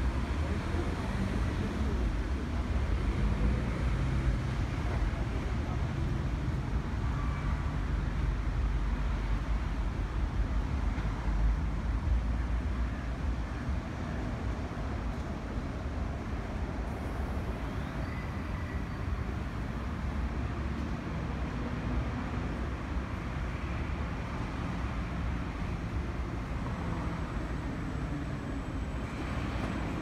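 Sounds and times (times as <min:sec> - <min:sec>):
city road traffic rumble: 0:00.0 - 0:30.0.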